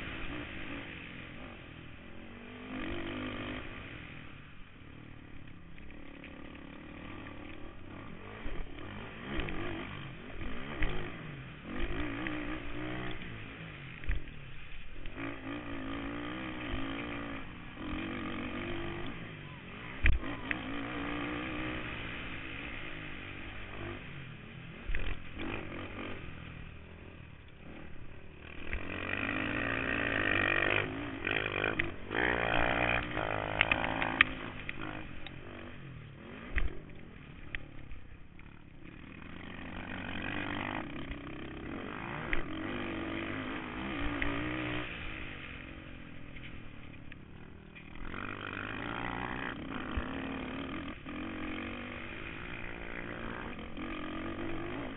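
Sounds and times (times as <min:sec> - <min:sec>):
quad bike engine revving: 0:00.0 - 0:54.9
quad bike thumping on bumps: 0:00.0 - 0:54.9.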